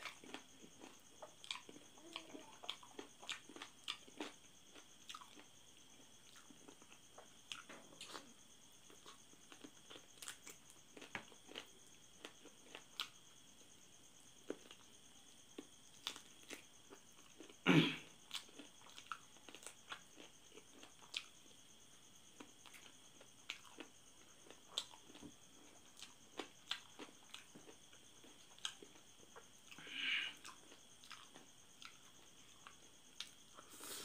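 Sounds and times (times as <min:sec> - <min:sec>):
soft chewing: 0:00.0 - 0:34.0.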